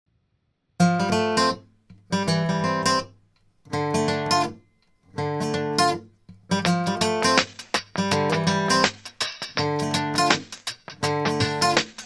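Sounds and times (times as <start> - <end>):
acoustic guitar strumming chords: 0.8 - 12.0.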